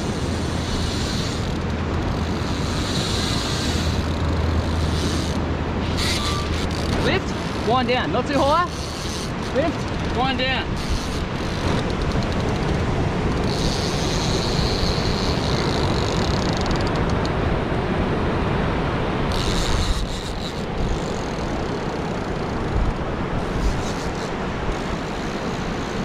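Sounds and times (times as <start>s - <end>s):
fishing reel drag buzzing: 0.0s - 7.7s, 8.4s - 16.9s, 19.3s - 26.0s
wind rumbling on microphone: 0.0s - 26.0s.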